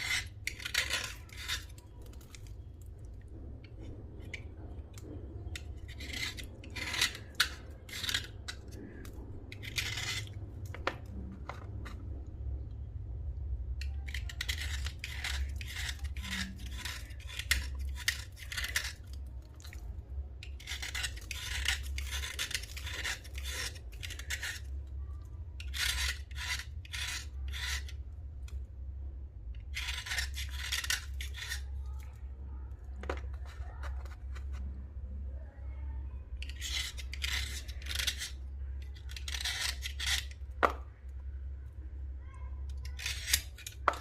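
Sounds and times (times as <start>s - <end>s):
slate scraping: 0.0s - 12.2s, 13.8s - 19.8s, 20.4s - 24.9s, 25.6s - 28.0s, 29.6s - 32.2s, 32.9s - 34.8s, 36.4s - 40.9s, 42.7s - 44.0s
steady low hum: 0.0s - 44.0s.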